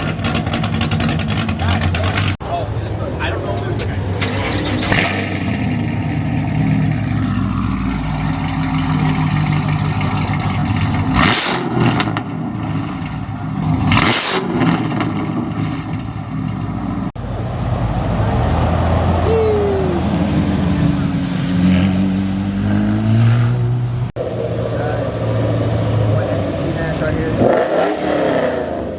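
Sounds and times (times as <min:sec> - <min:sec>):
car engine droning: 0:00.0 - 0:28.9.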